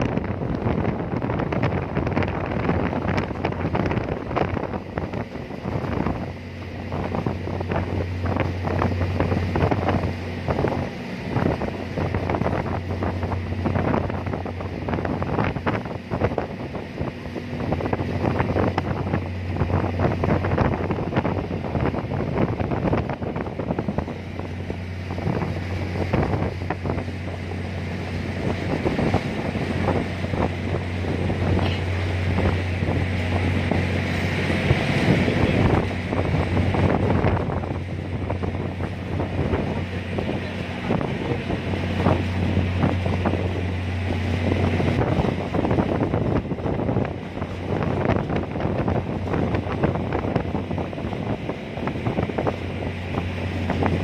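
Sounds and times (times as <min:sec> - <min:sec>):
ferry engine humming: 0:00.0 - 0:54.0
wind gusting across microphone: 0:00.0 - 0:54.0.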